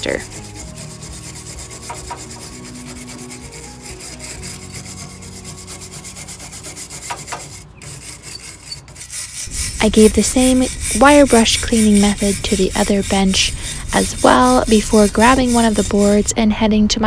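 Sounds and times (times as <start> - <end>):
wire brush scrubbing metal: 0.0 - 16.3.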